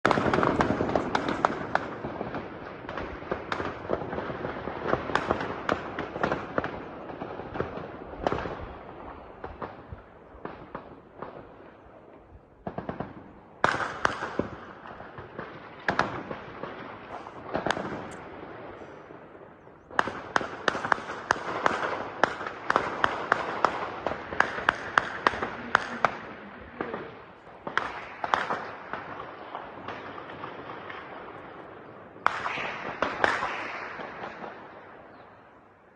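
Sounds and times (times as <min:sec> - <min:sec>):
gunfire shots: 0:00.0 - 0:11.9, 0:12.6 - 0:35.2
crackling haze: 0:00.0 - 0:35.9.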